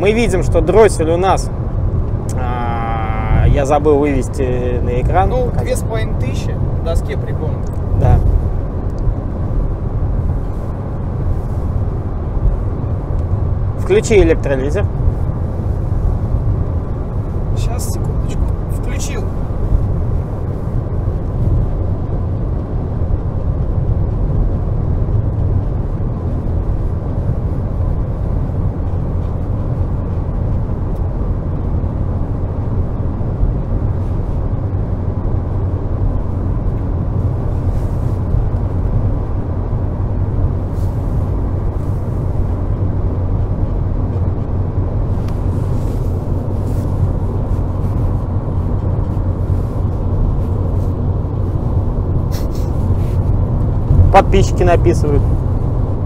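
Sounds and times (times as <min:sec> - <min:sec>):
car engine drone: 0:00.0 - 0:56.0
road noise: 0:00.0 - 0:56.0.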